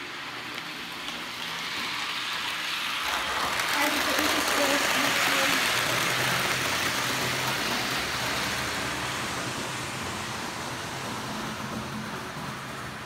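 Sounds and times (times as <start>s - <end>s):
model train wheels hissing on rails: 0.0s - 13.0s.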